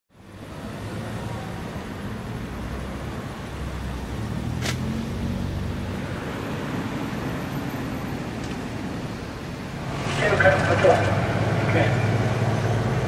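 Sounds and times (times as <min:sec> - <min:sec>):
cars passing: 0:00.1 - 0:13.0.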